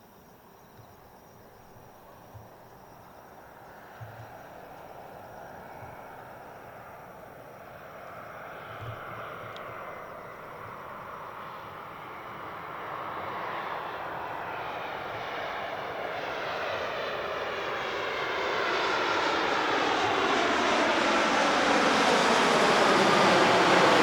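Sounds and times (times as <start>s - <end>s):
jet airliner engine noise: 3.5s - 24.0s.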